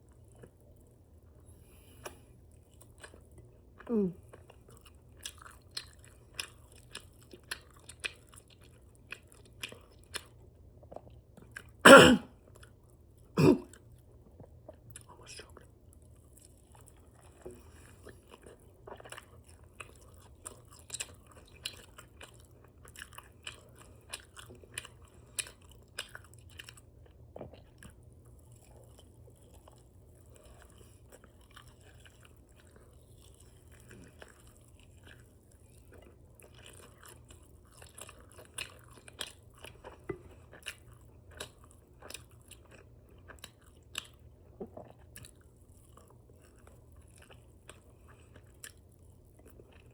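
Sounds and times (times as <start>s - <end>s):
open-mouth chewing: 1.6s - 11.8s, 13.5s - 49.9s.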